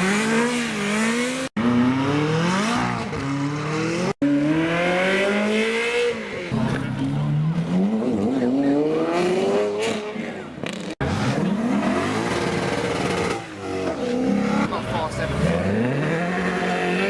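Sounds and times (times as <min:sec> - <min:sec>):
sports car engines accelerating: 0:00.0 - 0:17.0.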